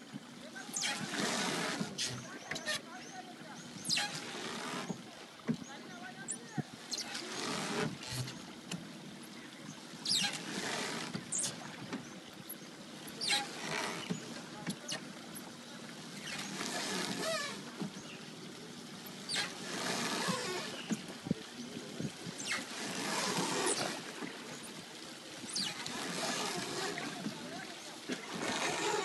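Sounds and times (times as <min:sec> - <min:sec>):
oar strokes splashing water: 0:00.0 - 0:29.0.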